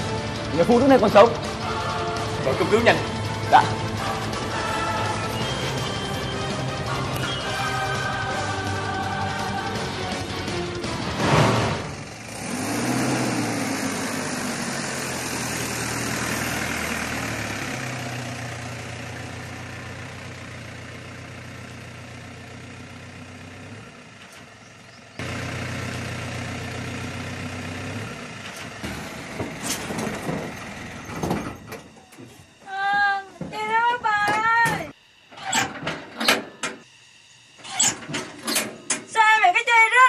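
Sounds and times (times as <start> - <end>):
vehicle engine humming: 0.0 - 40.0.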